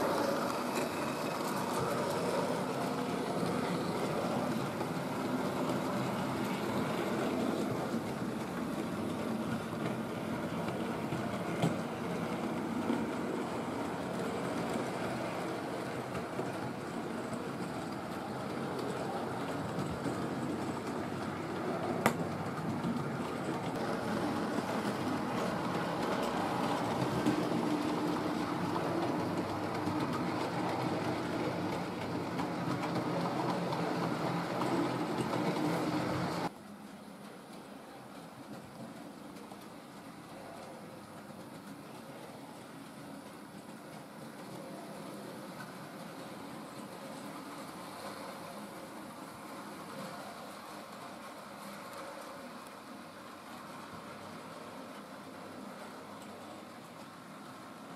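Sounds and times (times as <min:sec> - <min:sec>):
model train whirring on track: 0:00.0 - 0:57.9.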